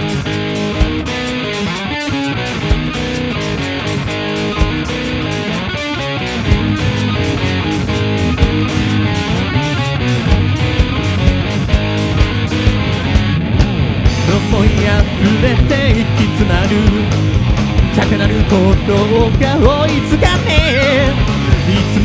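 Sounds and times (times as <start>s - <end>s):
bass and drums: 0.0s - 22.0s
electric guitar lead: 0.0s - 22.0s.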